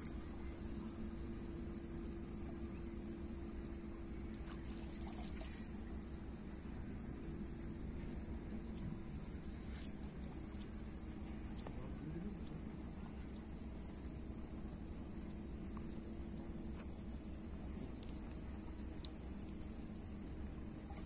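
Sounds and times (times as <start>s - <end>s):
faint low hum: 0.0s - 21.0s
high-pitched insect chorus: 0.0s - 21.0s.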